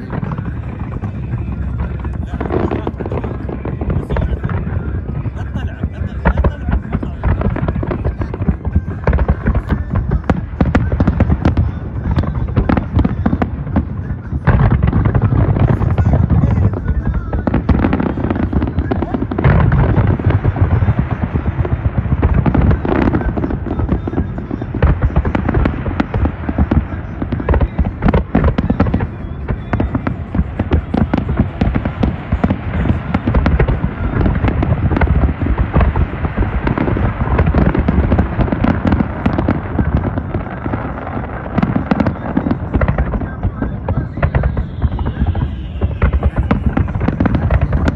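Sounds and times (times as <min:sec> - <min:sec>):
firework bursts and crackling: 0:00.0 - 0:47.9
low firework booms: 0:00.0 - 0:47.9.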